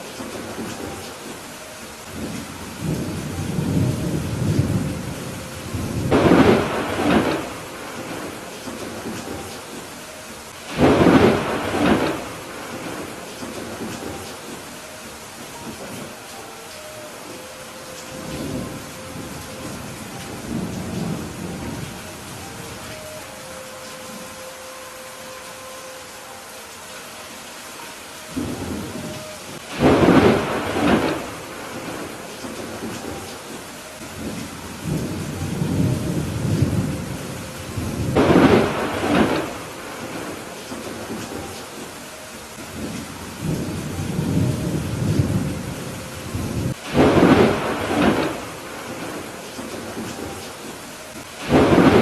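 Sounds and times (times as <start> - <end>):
thunder rumbling: 0.0 - 16.3, 16.9 - 24.5, 28.3 - 42.0, 42.6 - 52.0
steady rain: 0.0 - 52.0.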